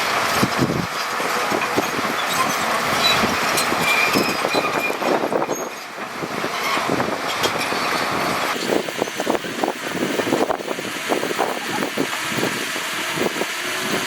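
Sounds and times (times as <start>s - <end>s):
heavy machinery engines running: 0.0s - 14.0s.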